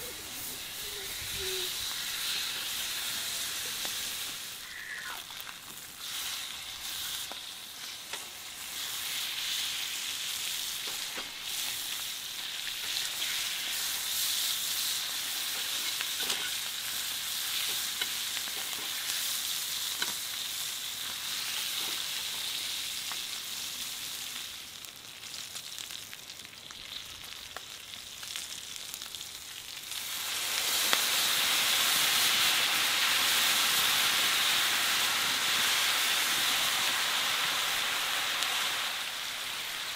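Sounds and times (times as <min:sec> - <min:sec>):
liquid hissing in hot pan: 0:00.0 - 0:24.8, 0:29.8 - 0:39.9
chicken sizzling in skillet: 0:00.0 - 0:39.9.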